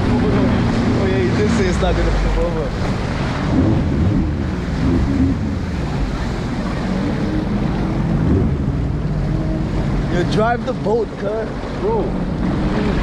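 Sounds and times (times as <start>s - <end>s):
jet ski engine running: 0.0s - 13.0s
water rushing past hull: 0.0s - 13.0s.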